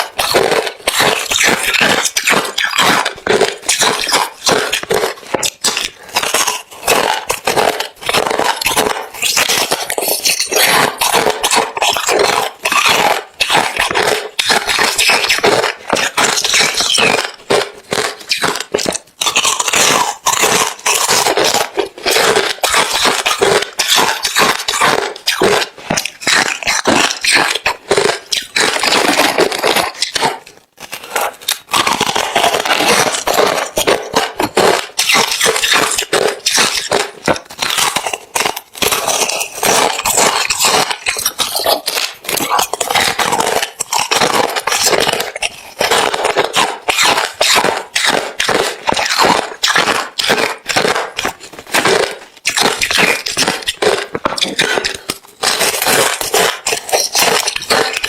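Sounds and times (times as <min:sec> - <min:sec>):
chewing crushed ice: 0:00.0 - 0:58.0.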